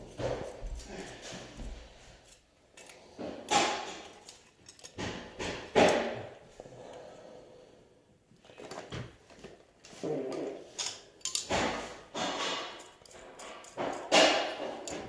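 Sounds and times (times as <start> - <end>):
tools scraping and knocking: 0.0 - 6.4, 8.6 - 15.0.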